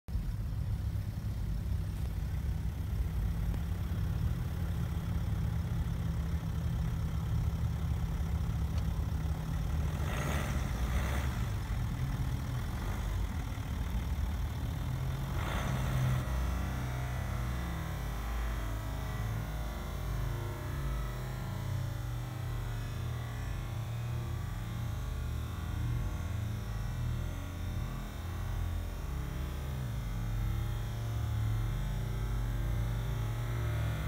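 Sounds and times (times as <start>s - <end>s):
suv engine rumbling at low revs: 0.0s - 34.0s.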